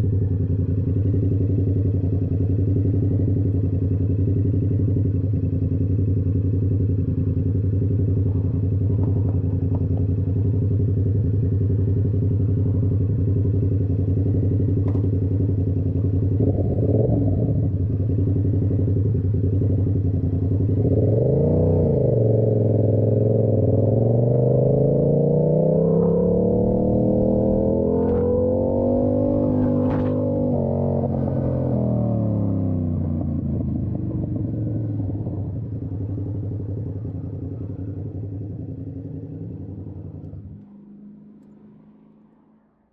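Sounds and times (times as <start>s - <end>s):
motorcycle idling: 0.0s - 42.4s
motorcycle accelerating: 0.0s - 42.9s.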